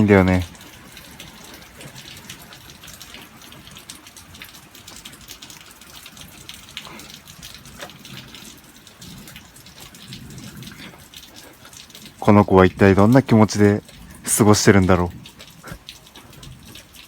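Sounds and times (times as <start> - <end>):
drips and patters: 0.0 - 17.0
rain hissing: 0.0 - 17.0.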